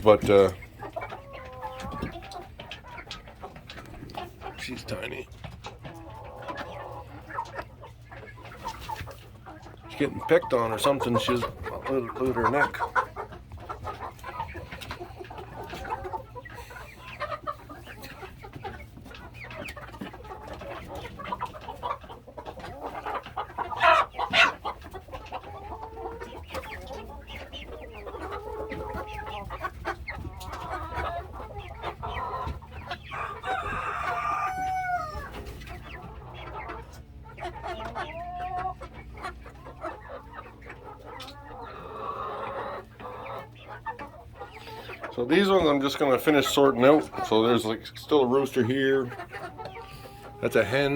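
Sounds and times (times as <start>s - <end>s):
chickens clucking and calling: 0.0s - 50.9s.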